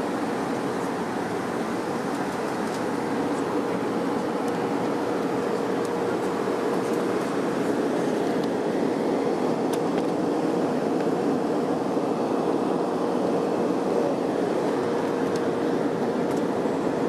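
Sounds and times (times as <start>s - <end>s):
aircraft cabin engine and airflow: 0.0s - 17.0s
faint constant hum: 0.0s - 17.0s.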